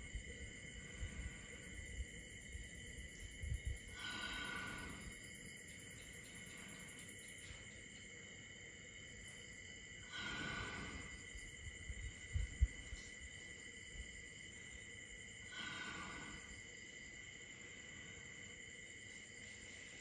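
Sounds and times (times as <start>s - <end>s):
night insects chirring: 0.0s - 20.0s.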